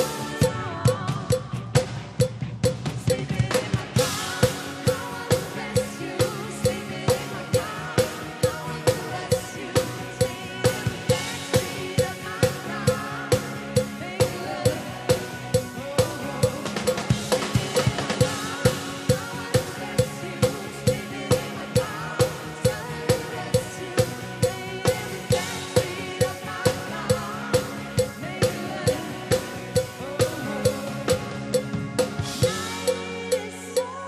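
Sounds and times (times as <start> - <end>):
rock band playing: 0.0 - 34.0
rock drum beat: 0.0 - 34.0.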